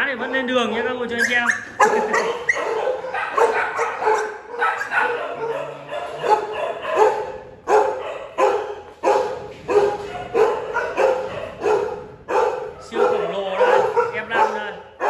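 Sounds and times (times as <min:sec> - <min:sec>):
dog barking: 0:00.0 - 0:15.0.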